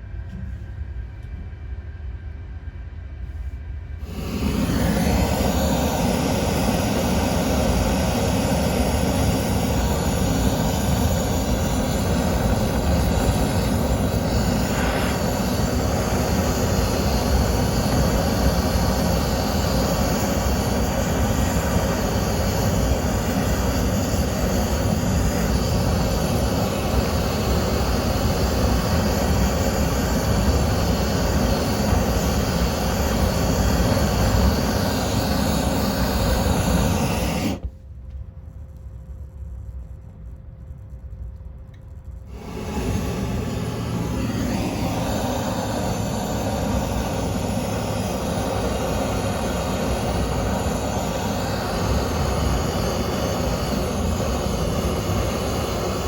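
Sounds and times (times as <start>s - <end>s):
flame rushing: 4.0s - 37.8s, 42.2s - 56.0s.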